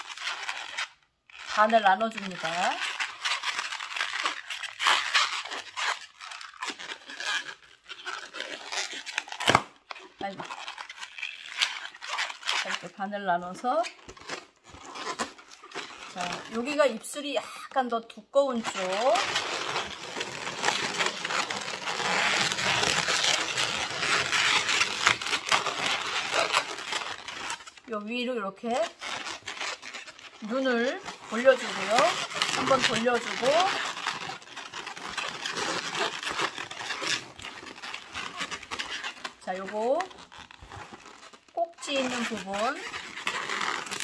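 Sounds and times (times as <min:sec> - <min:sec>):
rubber balloon creaking: 0:00.0 - 0:44.0.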